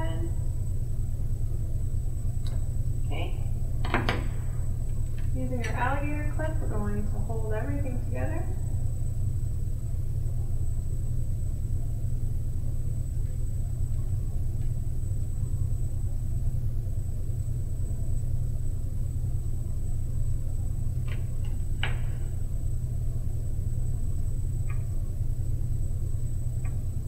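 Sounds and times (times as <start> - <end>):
faint high-pitched whine: 0.0 - 27.0
low background rumble: 0.0 - 27.0.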